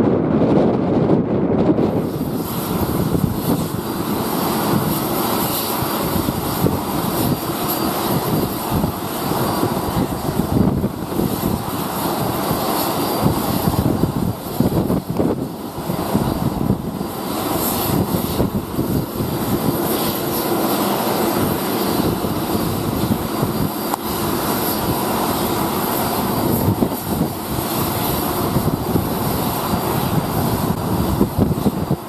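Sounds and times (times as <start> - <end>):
aircraft engine noise: 0.0 - 32.0
wind buffeting microphone: 0.0 - 32.0.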